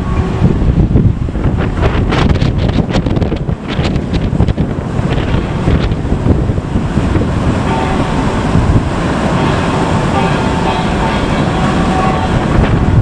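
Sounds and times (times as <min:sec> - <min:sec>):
open water wash: 0:00.0 - 0:13.0
wind buffeting microphone: 0:00.0 - 0:13.0.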